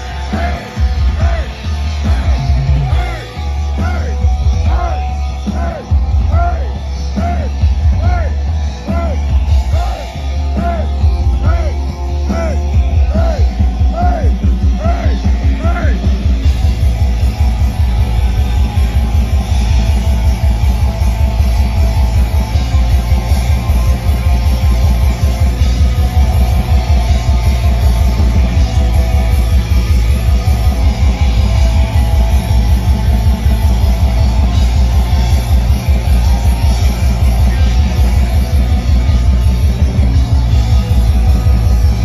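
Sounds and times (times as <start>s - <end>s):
distorted electric guitars: 0.0s - 42.0s
rapid drumming: 0.0s - 42.0s.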